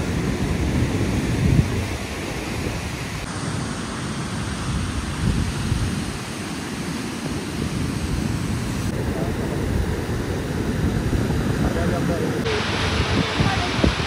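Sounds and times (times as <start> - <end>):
river rapids roaring: 0.0 - 14.0
wind buffeting microphone: 0.0 - 14.0.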